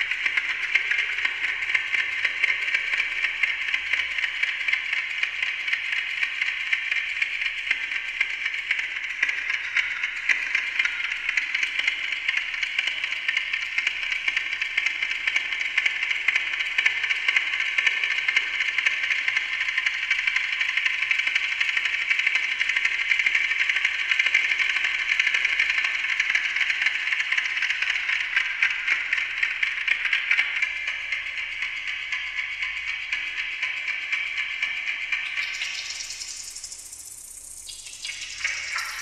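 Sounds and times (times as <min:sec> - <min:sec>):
stream of overlapping clock ticks: 0:00.0 - 0:39.0.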